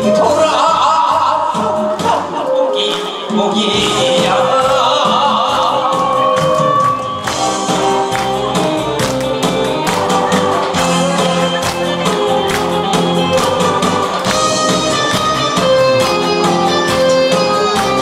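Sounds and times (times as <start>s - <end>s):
pop backing track: 0.0s - 18.0s
steady drum beat: 3.4s - 18.0s.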